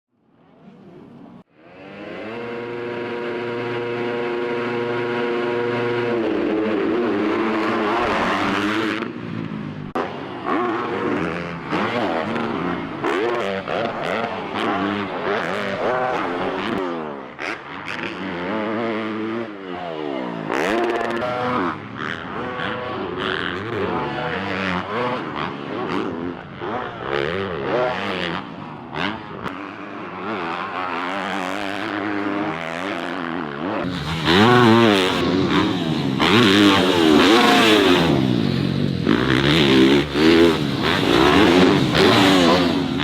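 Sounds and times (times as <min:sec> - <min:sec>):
dirt bike engine revving: 0:01.5 - 0:43.0.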